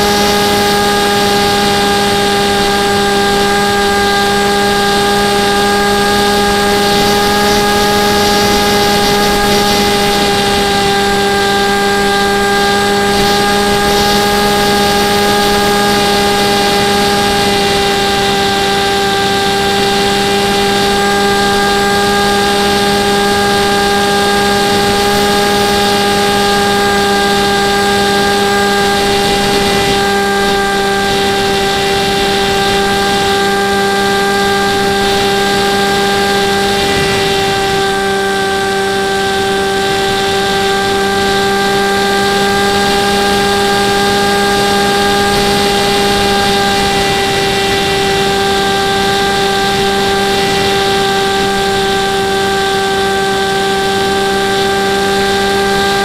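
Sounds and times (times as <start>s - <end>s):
model airplane motor drone: 0.0s - 56.0s.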